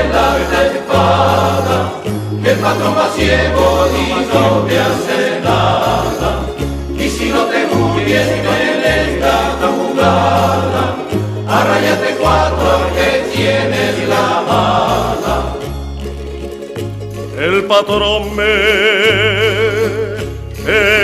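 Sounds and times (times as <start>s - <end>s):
song with layered instruments: 0.0s - 21.0s.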